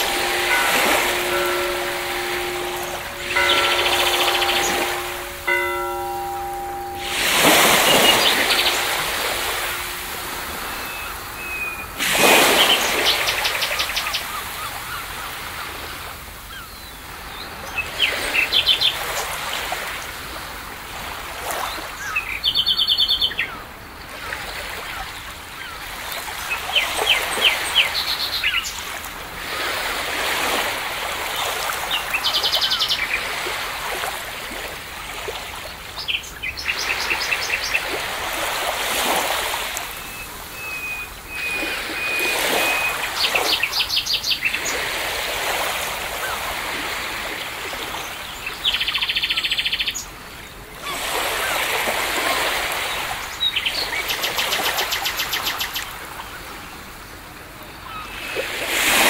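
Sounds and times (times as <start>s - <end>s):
songbirds trilling: 0.0s - 19.9s, 31.2s - 59.0s
waves washing: 0.0s - 59.0s.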